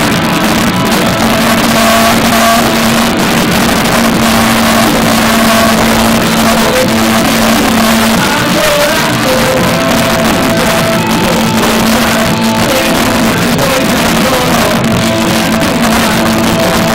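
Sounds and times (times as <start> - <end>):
loud rock band music: 0.0 - 16.9.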